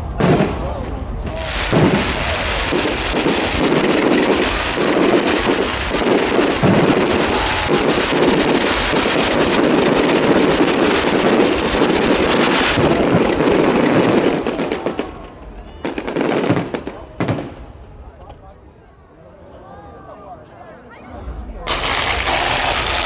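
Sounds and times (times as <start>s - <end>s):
fireworks bursting and crackling: 0.0s - 17.9s, 21.6s - 23.0s.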